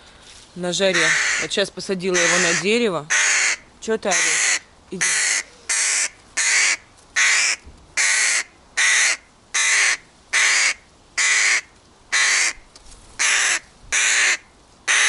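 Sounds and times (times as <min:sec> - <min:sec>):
crow fledgling cawing: 0:00.9 - 0:15.0.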